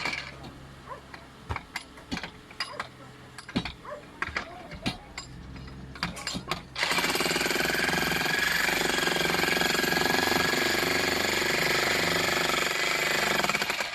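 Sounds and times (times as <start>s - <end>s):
jackhammer hammering: 0.0s - 13.9s.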